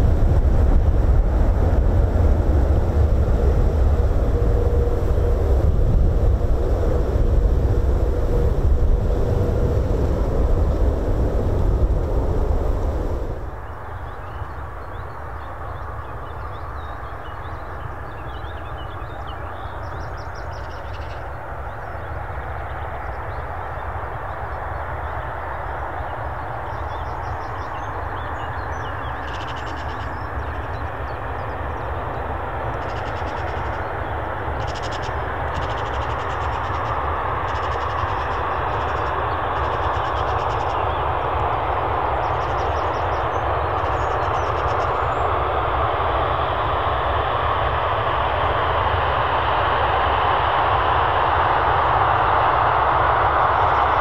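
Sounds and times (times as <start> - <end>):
jet engines rushing: 0.0 - 14.0, 14.6 - 54.0.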